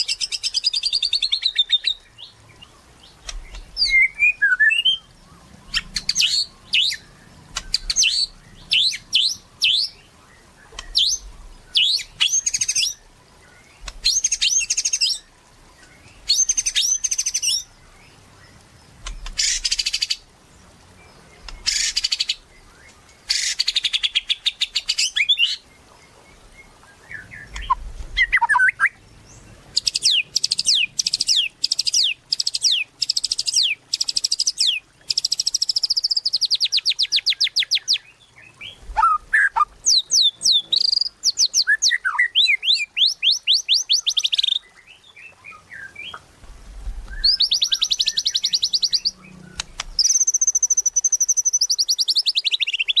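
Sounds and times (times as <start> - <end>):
soft low bird chirps: 0.0 - 53.0
songbird singing trills: 0.0 - 53.0.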